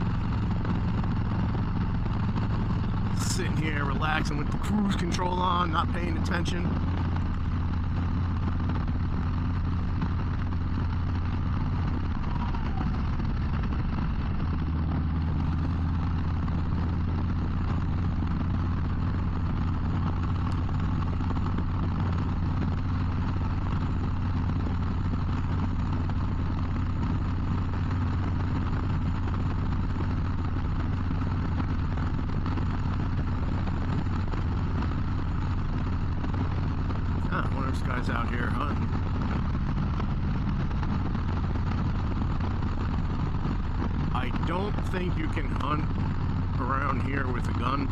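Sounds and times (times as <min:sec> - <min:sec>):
motorcycle engine drone: 0:00.0 - 0:47.9
wind and road noise: 0:00.0 - 0:47.9.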